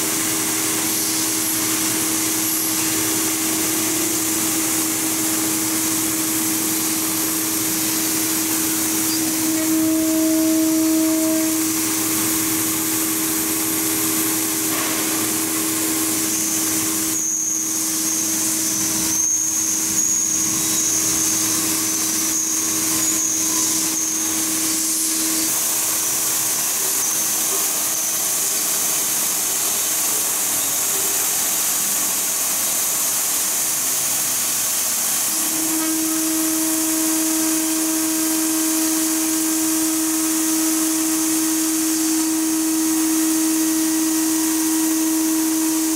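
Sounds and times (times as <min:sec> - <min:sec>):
mist coolant air spray hiss: 0:00.0 - 0:45.9
router spindle whine: 0:00.0 - 0:45.9
high squeal of bit cutting metal: 0:00.1 - 0:29.2, 0:35.2 - 0:45.9.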